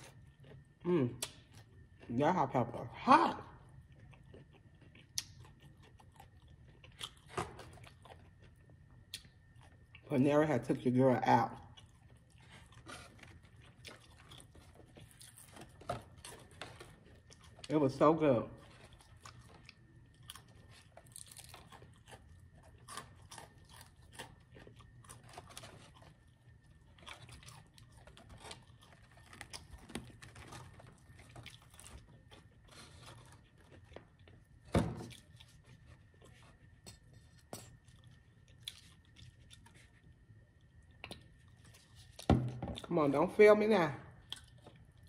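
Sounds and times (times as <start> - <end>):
chewing crunchy fried food: 0.0 - 43.0, 44.1 - 45.0.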